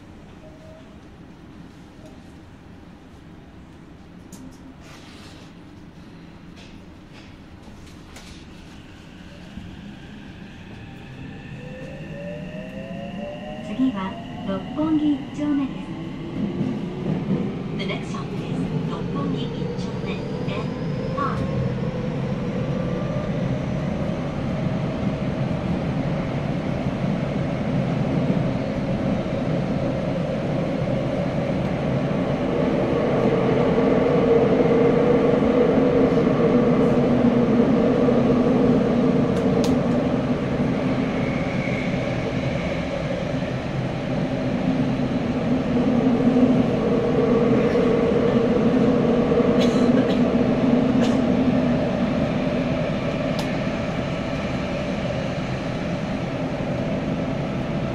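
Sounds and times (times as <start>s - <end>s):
subway car rumbling: 0.0s - 57.9s.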